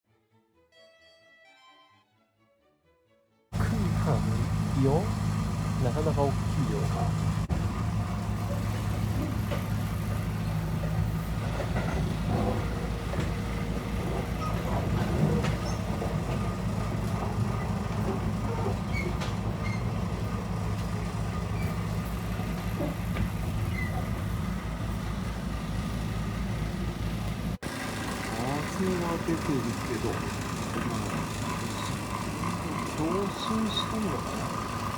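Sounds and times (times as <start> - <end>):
cooler fan humming and pulsing: 3.6 - 34.9.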